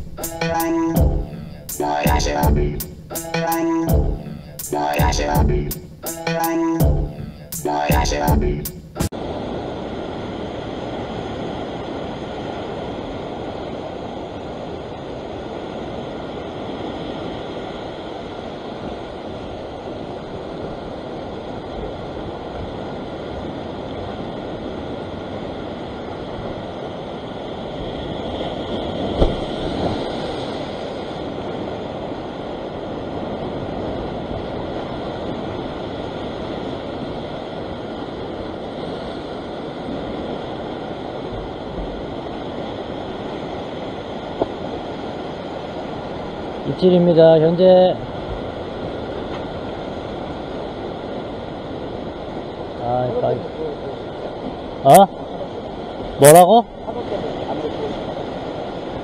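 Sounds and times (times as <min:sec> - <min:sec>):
ocean surf over rock: 0:00.0 - 0:59.0.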